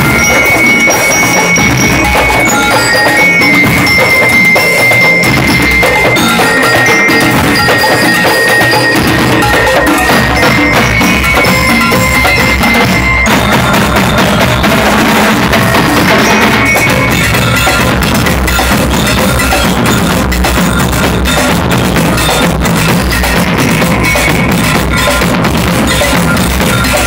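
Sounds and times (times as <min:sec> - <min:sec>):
bell lyres melody: 0:00.0 - 0:27.0
marching drums: 0:00.0 - 0:27.0.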